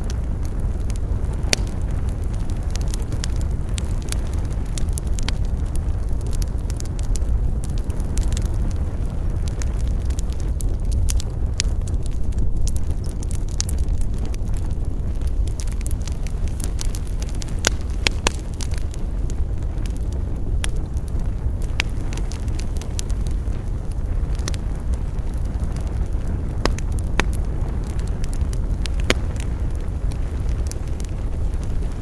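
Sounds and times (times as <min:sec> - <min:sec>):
burning wood crackling and popping: 0:00.0 - 0:32.0
campfire flame rushing: 0:00.0 - 0:32.0.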